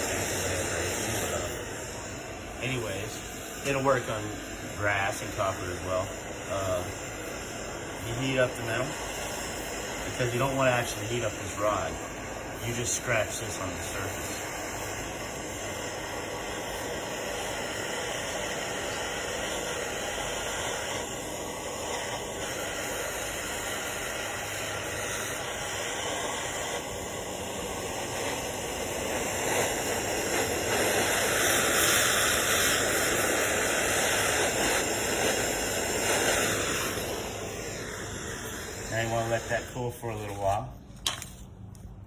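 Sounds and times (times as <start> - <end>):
gas torch flame hissing: 0.0 - 42.0.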